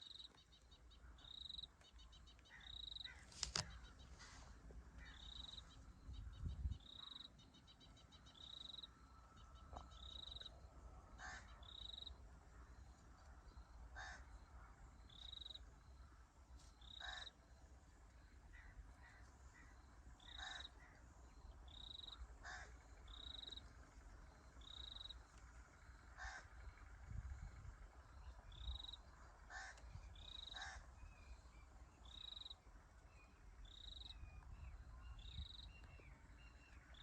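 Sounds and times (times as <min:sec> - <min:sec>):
low rumble of wind: 0:03.2 - 0:16.6, 0:17.4 - 0:37.0.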